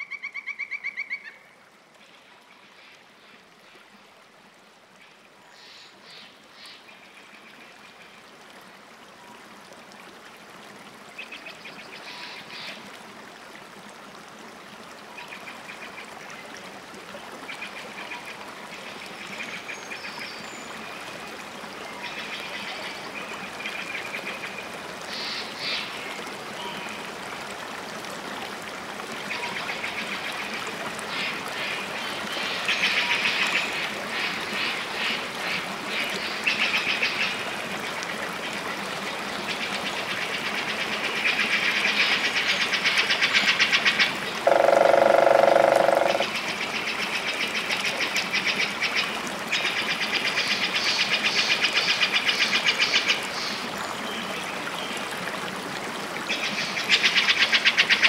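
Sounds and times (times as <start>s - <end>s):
running water: 1.1s - 58.0s.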